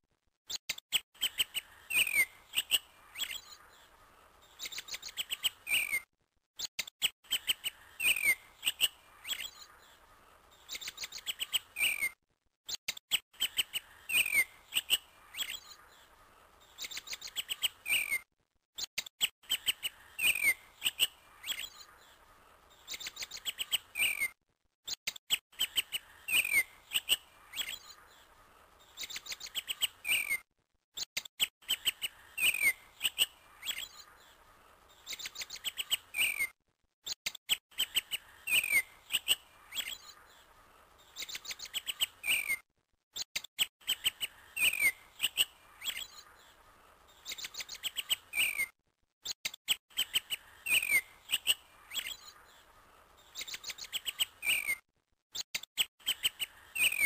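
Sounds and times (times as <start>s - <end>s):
small birds chirping: 0.4s - 57.0s.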